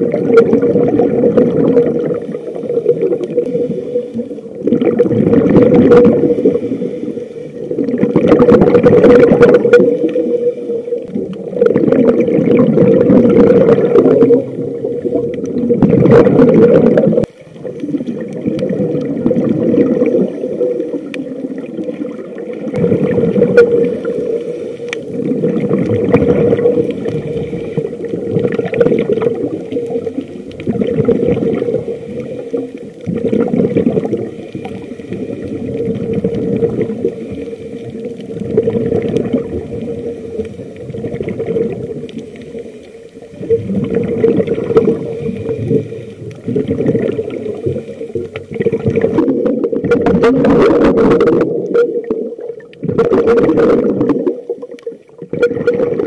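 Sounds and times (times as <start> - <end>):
underwater regulator bubbly exhalations: 0.0 - 7.0, 7.6 - 42.5, 43.2 - 56.0.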